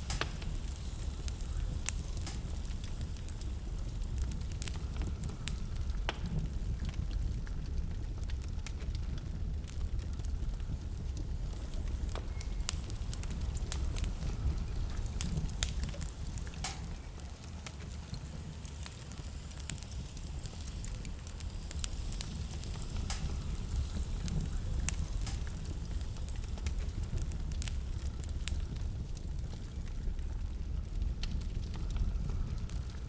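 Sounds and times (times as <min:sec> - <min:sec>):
fire crackling and popping: 0:00.0 - 0:33.0
fire rumbling: 0:00.0 - 0:33.0.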